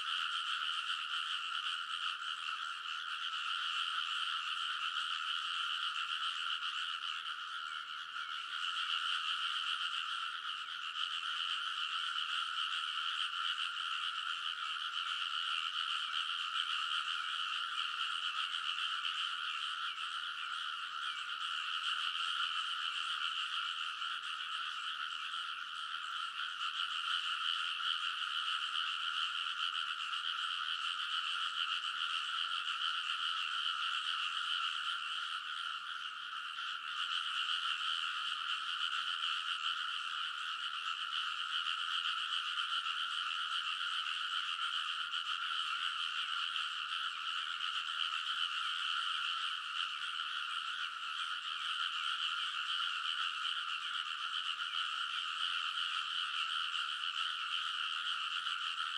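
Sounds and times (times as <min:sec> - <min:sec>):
chorus of frogs croaking: 0:00.0 - 0:58.9.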